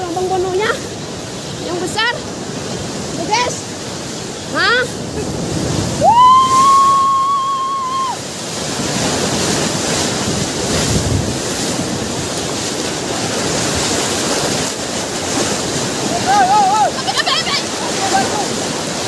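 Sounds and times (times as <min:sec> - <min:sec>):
wave crashing over riverbank: 0:00.0 - 0:19.0.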